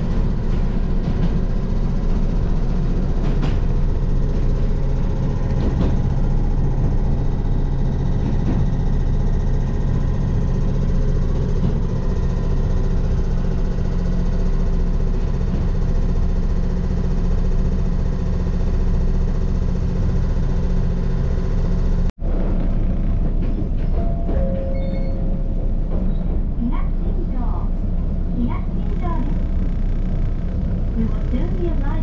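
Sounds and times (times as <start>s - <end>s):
railway car hum and rumble: 0.0s - 32.0s.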